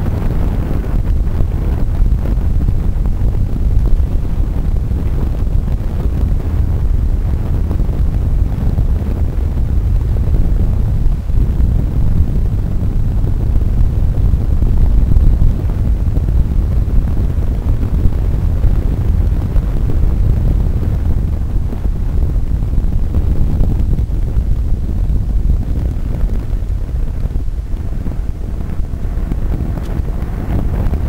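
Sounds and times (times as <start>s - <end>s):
tyres rumbling on tarmac: 0.0s - 31.0s
wind buffeting microphone: 0.0s - 31.0s.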